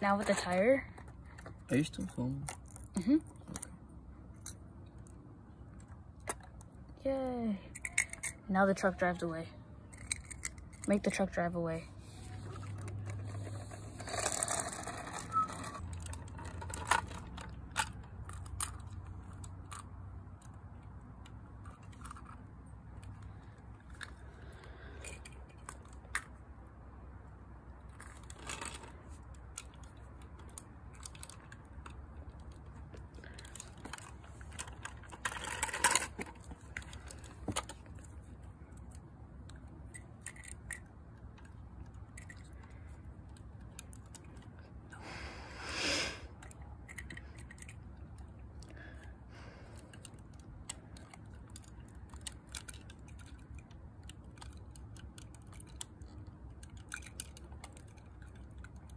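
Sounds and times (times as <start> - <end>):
toy truck clicking and rattling: 0.0 - 3.7, 7.7 - 8.9, 9.9 - 11.3, 12.5 - 26.4, 27.8 - 38.1, 38.7 - 45.0, 45.9 - 49.0, 49.6 - 58.9.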